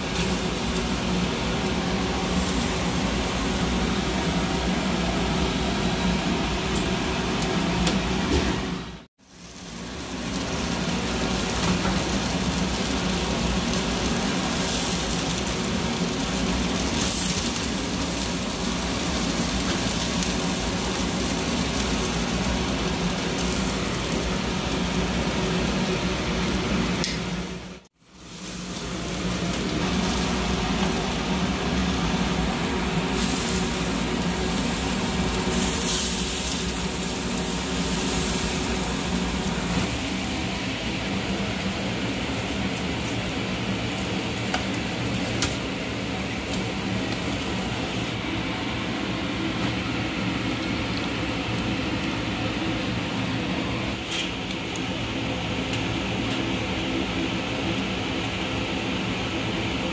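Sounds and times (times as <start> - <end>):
kitchen fan humming: 0.0 - 59.9.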